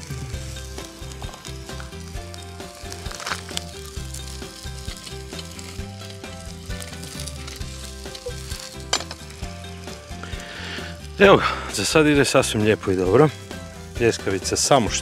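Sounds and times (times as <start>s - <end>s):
burger patty sizzling in a pan: 0.0s - 15.0s.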